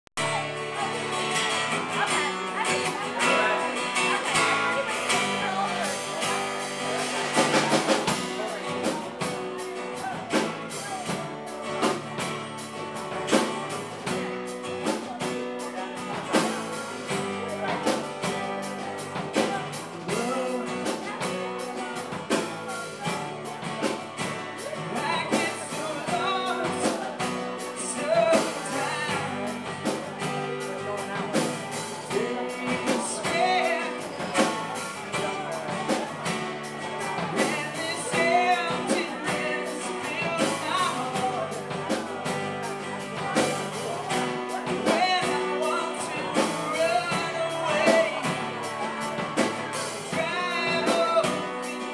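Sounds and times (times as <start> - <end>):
drum kit beat: 0.2 - 51.9
man singing: 0.2 - 51.9
strummed acoustic guitars: 0.2 - 51.9.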